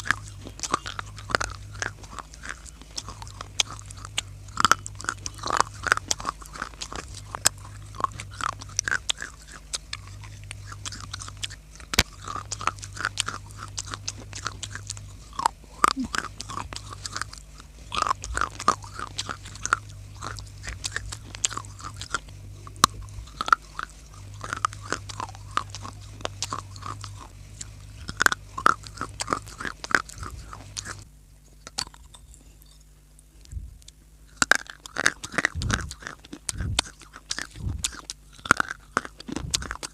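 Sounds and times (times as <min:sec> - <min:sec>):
dry clay crunching being chewed: 0:00.0 - 0:39.9
steady low hum: 0:00.0 - 0:39.9.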